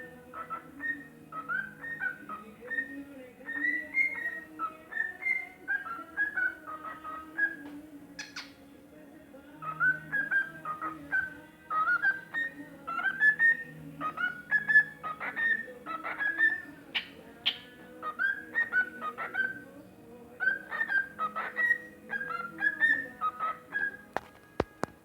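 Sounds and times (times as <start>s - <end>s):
cockatiel whistling: 0.0s - 8.6s, 9.6s - 19.7s, 20.4s - 24.2s
harsh bird chirps: 0.0s - 8.8s, 9.5s - 24.2s.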